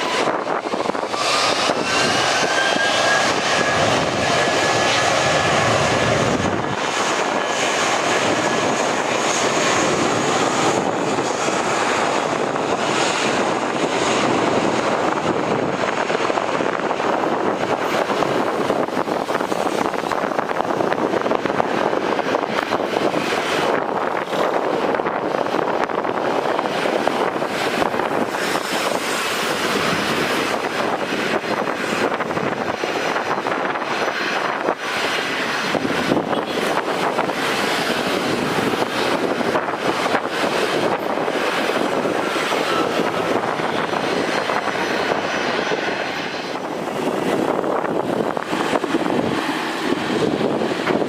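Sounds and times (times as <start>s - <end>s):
jet engines rushing: 0.0s - 51.0s.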